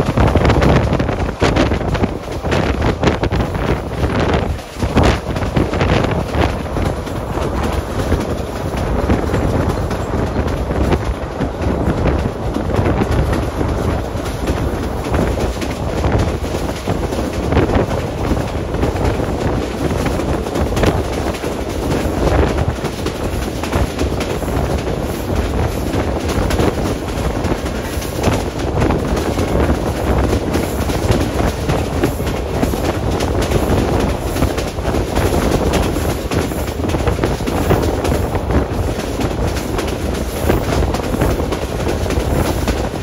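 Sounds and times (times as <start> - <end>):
train rumbling and rattling: 0.0 - 43.0
wind buffeting microphone: 0.0 - 43.0.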